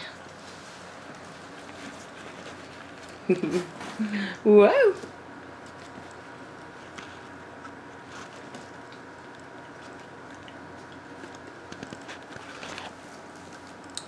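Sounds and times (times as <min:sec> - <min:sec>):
puppies clicking rustling and chewing: 0:00.1 - 0:04.0, 0:05.0 - 0:14.0.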